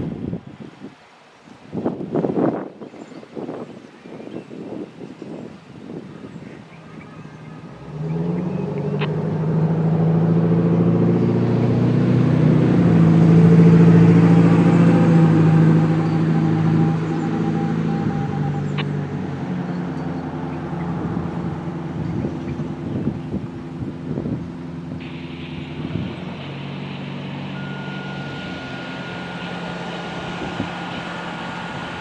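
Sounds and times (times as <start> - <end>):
vehicle engine humming: 5.0 - 32.0.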